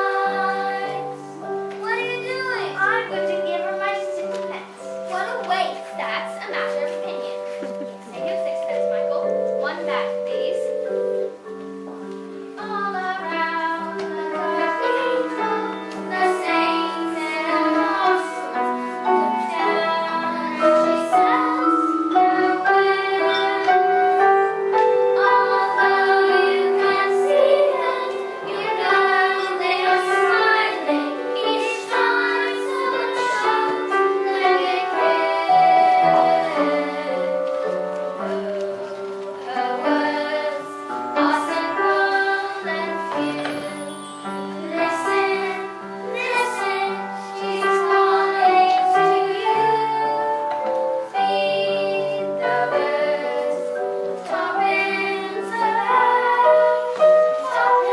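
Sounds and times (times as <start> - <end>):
instrumental accompaniment: 0.0 - 57.9.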